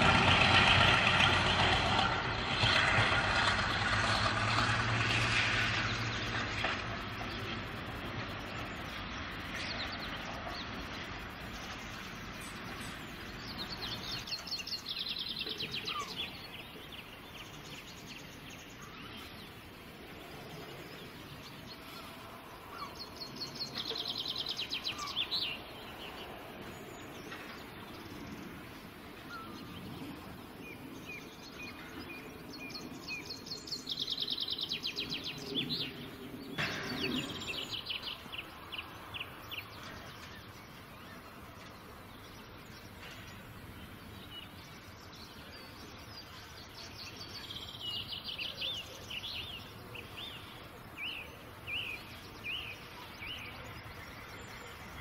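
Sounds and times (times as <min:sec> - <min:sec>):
low steady background noise: 0:00.0 - 0:55.0
songbird singing: 0:00.0 - 0:55.0.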